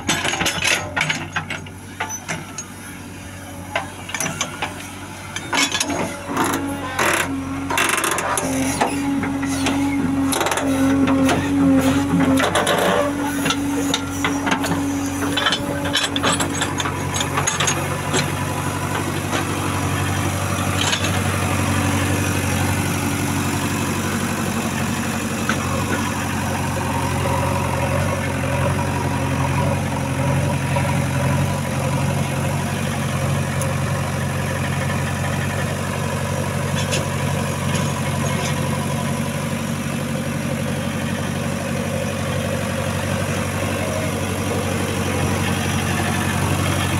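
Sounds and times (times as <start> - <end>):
diesel engine running: 0.0 - 46.9
engine clattering: 3.6 - 46.9.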